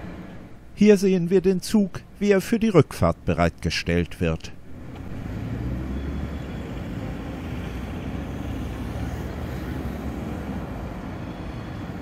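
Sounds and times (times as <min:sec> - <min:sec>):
city hum: 0:00.0 - 0:12.0.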